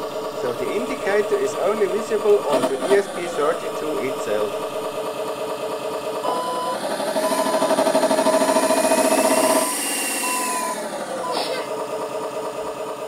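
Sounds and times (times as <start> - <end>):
simulated truck engine over loudspeakers: 0.0 - 13.0.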